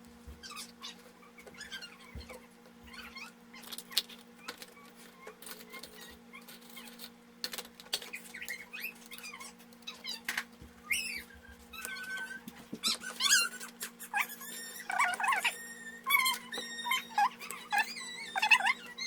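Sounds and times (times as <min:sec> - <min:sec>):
pet animal whimpering and squeaking: 0:00.4 - 0:07.1, 0:08.0 - 0:19.0.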